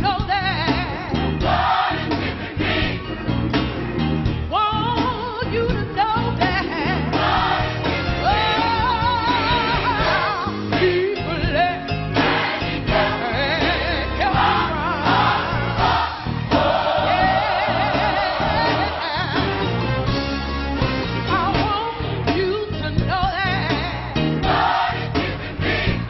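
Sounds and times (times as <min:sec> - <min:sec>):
gospel singers with vibrato: 0:00.0 - 0:03.4, 0:04.5 - 0:19.9, 0:21.5 - 0:26.0
band accompaniment with bass: 0:00.0 - 0:26.0.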